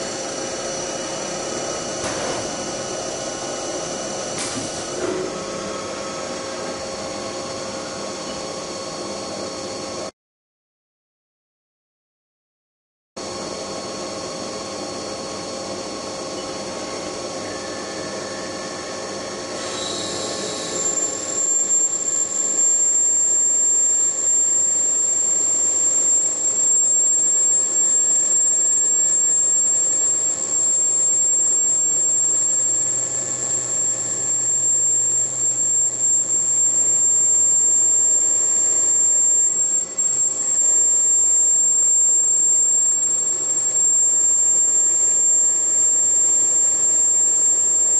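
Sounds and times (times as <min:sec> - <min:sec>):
high steady whine: 0:00.0 - 0:10.1, 0:13.2 - 0:47.9
machine tool hum: 0:00.0 - 0:10.1, 0:13.2 - 0:47.9.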